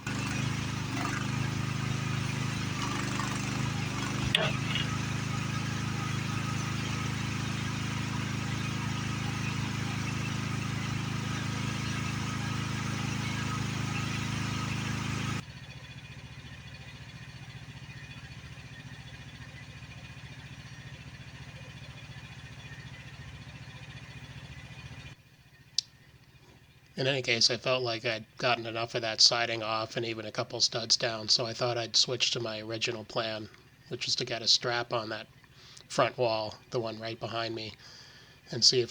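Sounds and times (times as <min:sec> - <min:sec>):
demolition machine engine running: 0:00.0 - 0:38.9.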